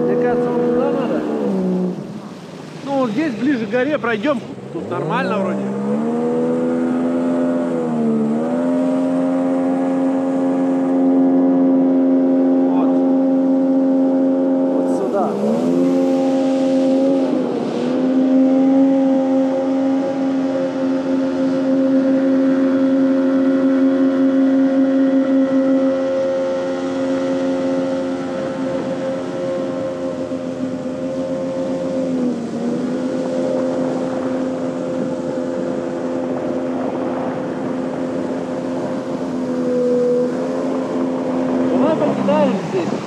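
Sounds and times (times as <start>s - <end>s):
jet boat engine running: 0.0s - 43.0s.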